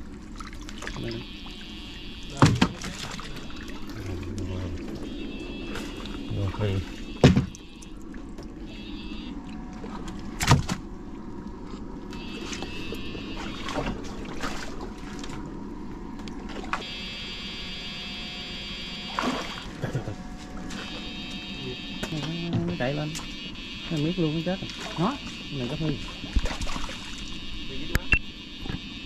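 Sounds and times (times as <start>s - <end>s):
steady low rumble: 0.0s - 19.1s, 19.7s - 24.8s
electric fishing shocker buzzing: 1.0s - 29.0s.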